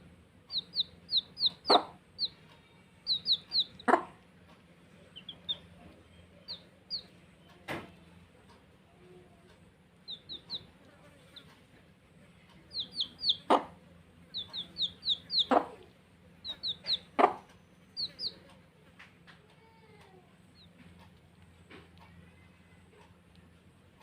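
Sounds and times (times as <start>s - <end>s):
baby chicks peeping: 0.0s - 24.0s.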